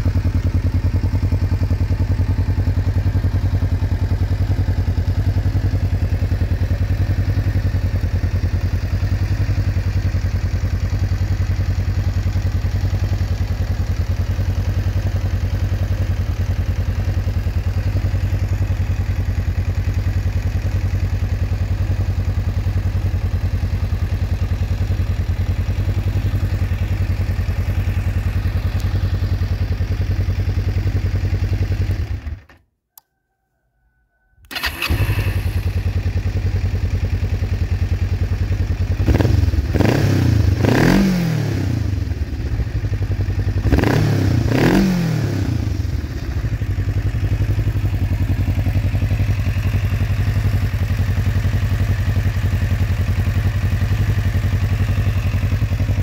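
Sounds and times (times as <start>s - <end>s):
motorcycle engine idling and revving: 0.0s - 32.6s, 34.4s - 56.0s.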